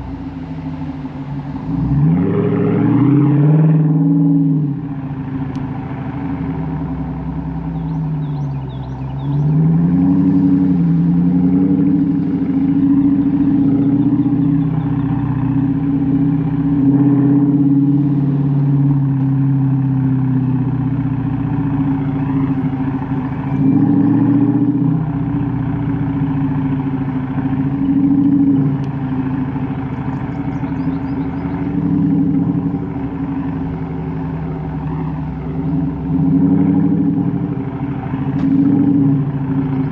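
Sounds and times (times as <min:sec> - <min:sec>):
deep car exhaust note: 0:00.0 - 0:39.9.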